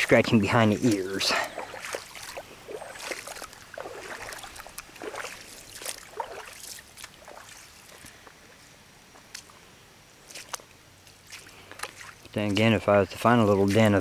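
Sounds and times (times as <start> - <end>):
footsteps wading in creek: 0.0 - 14.0.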